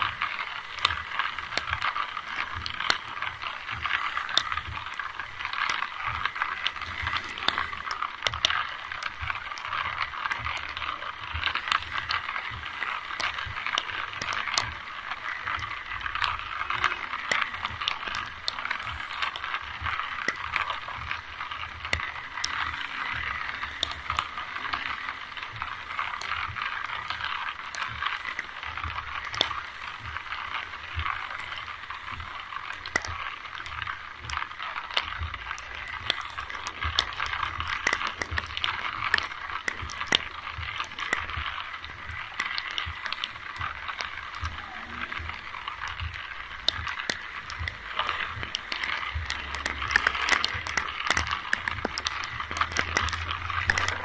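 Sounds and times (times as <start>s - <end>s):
raindrop ticks: 0.0s - 54.0s.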